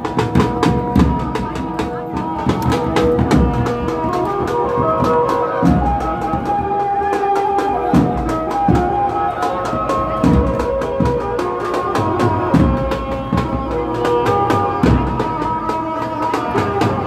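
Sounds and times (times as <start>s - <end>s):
band music: 0.0s - 17.0s.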